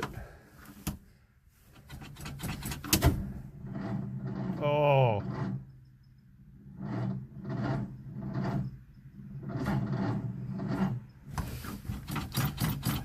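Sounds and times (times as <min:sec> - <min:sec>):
starter cranking engine slowly: 0:01.9 - 0:13.0.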